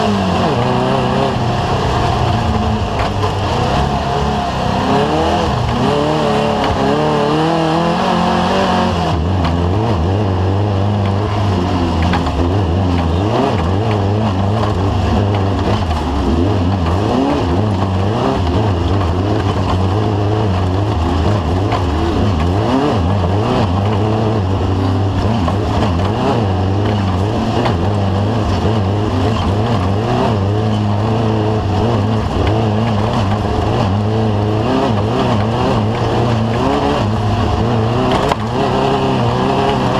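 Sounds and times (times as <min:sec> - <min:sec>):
race vehicle engine revving: 0:00.0 - 0:39.9
road and wind noise: 0:00.0 - 0:39.9.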